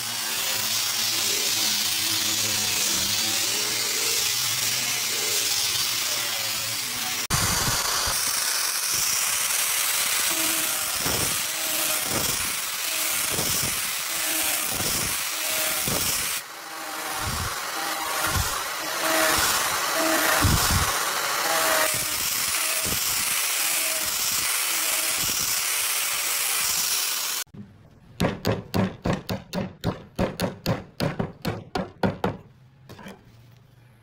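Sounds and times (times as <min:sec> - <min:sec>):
disc sander hissing on wood: 0:00.0 - 0:27.5.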